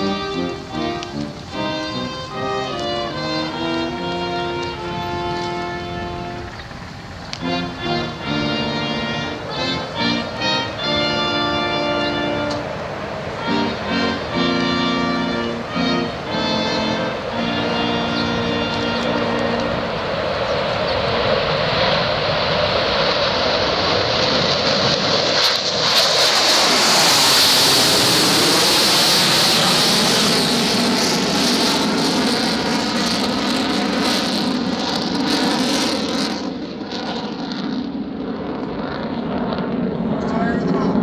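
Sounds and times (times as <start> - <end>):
jet flying by: 0.0 - 41.0.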